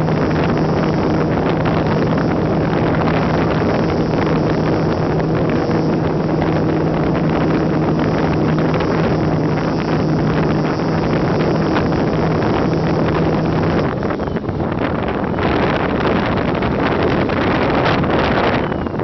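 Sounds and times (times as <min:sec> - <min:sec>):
electric motor and propeller hum: 0:00.0 - 0:19.0
wind rushing over microphone: 0:00.0 - 0:19.0.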